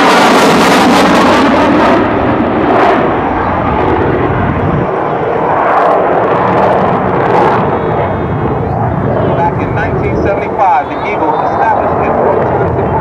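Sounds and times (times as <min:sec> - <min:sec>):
jet engine afterburner roar: 0:00.0 - 0:13.0.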